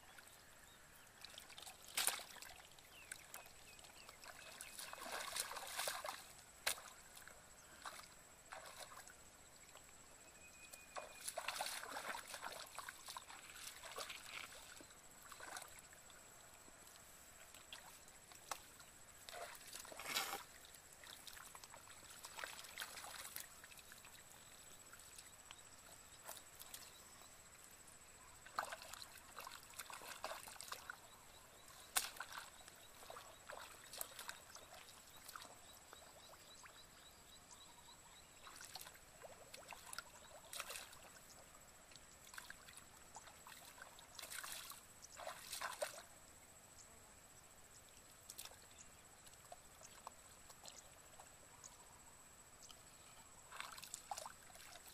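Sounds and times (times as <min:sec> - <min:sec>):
splashing in muddy water: 0:01.0 - 0:27.3, 0:28.2 - 0:37.5, 0:38.2 - 0:46.3, 0:47.8 - 0:51.5, 0:52.6 - 0:54.9.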